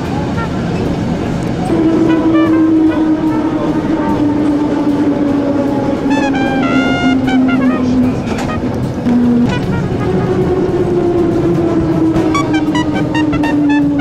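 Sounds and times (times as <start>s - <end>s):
tram motor whine: 0.0s - 14.0s
wheels and running gear rumble: 0.0s - 14.0s.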